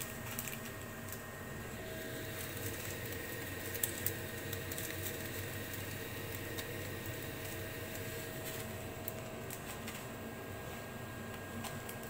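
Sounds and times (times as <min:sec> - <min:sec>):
exhaust fan humming: 0:00.0 - 0:12.0.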